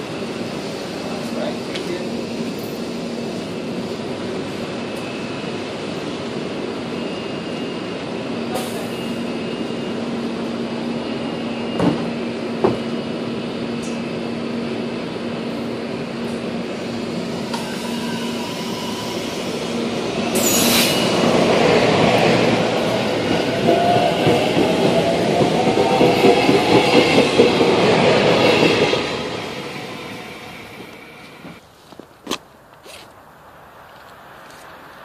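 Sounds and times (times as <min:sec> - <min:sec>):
electric train humming: 0:00.0 - 0:31.6.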